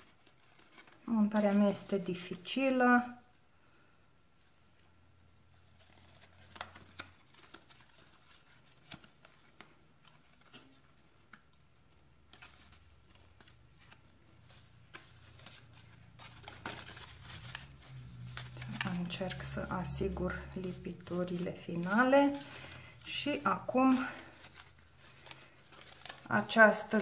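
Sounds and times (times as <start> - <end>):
paper rustling and crinkling: 0.0 - 3.2, 4.4 - 27.0.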